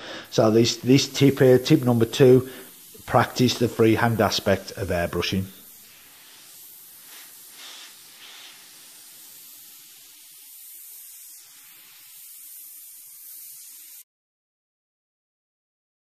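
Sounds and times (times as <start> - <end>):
airbrush spraying hiss: 0.0 - 14.0.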